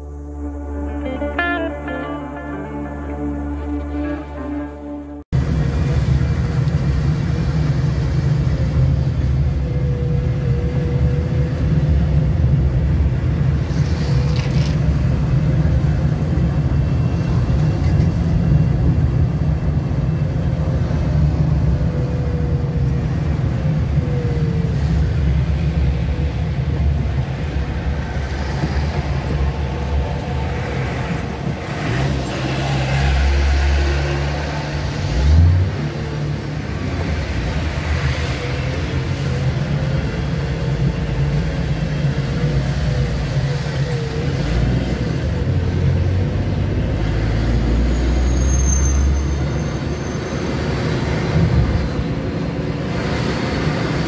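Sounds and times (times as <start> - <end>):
car road noise: 0.0 - 54.0.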